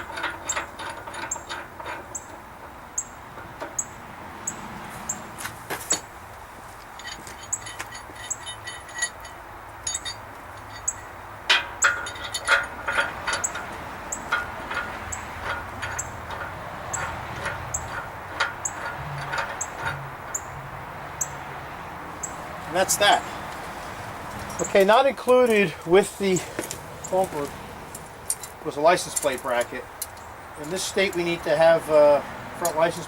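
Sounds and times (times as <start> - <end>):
steel shackles clinking: 0.0 - 4.6, 6.7 - 21.4, 22.2 - 33.0.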